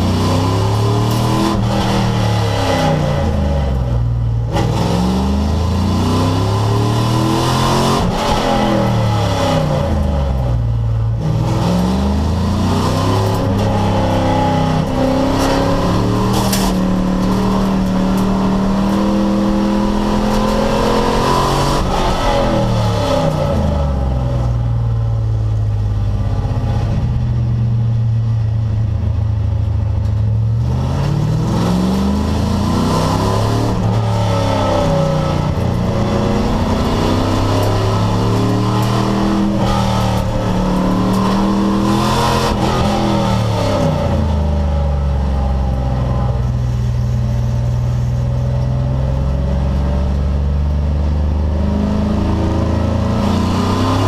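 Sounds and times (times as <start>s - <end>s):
race car engine revving: 0.0s - 28.8s, 29.9s - 54.0s.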